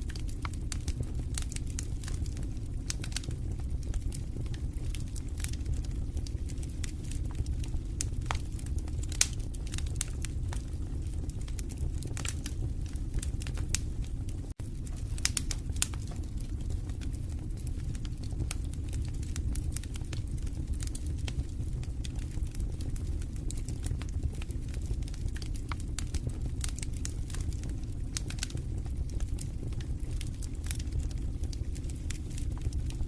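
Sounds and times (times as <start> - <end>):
low rumble of flames: 0.0 - 33.0
wood fire crackling: 0.0 - 33.0.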